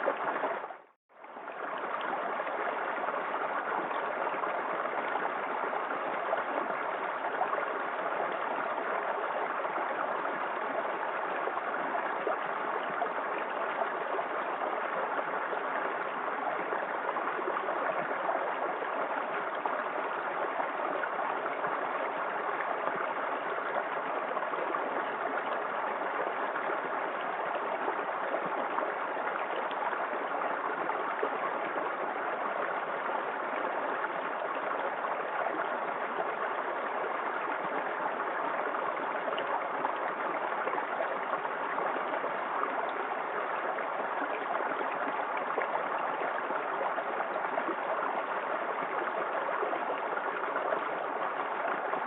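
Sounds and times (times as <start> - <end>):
small waterfall splashing: 0.0 - 52.0.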